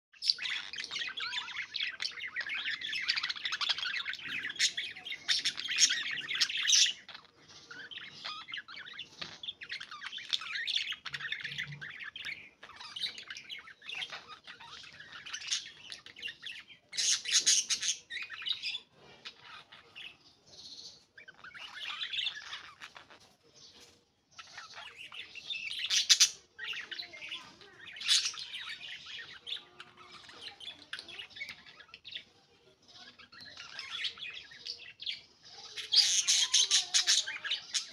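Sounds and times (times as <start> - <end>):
budgerigars chattering: 0.2 - 20.2, 24.4 - 32.3, 32.9 - 37.9.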